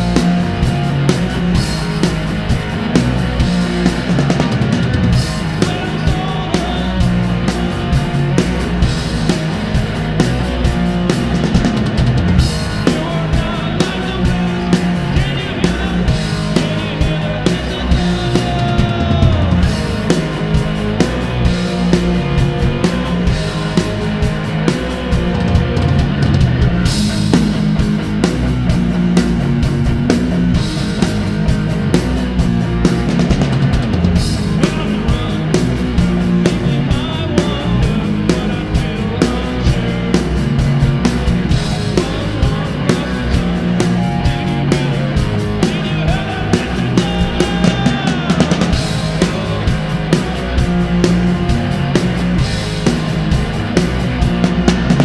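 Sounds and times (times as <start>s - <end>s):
bass guitar: 0.0s - 55.0s
drums keeping a steady beat: 0.0s - 55.0s
electric guitar: 0.0s - 55.0s
rock band playing: 0.0s - 55.0s.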